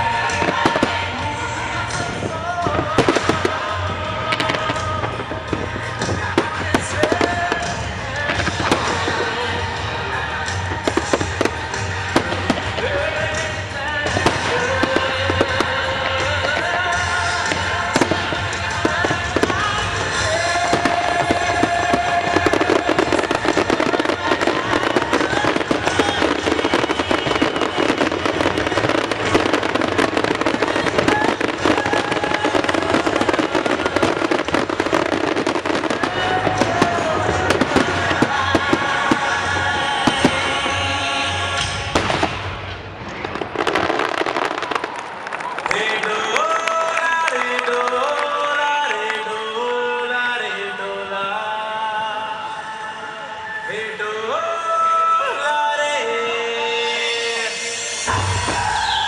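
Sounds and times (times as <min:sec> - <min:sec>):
fireworks crackling and banging: 0:00.0 - 0:51.9, 0:52.7 - 0:59.0
music: 0:00.0 - 0:59.0.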